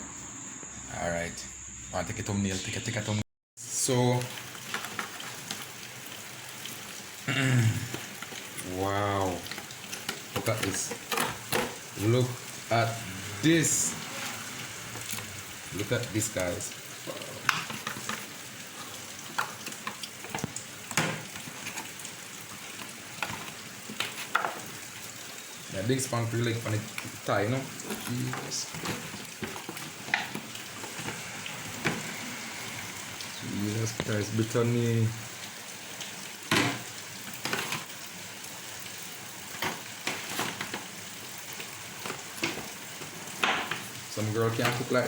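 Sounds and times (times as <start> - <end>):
meat sizzling in a pan: 3.6 - 45.0.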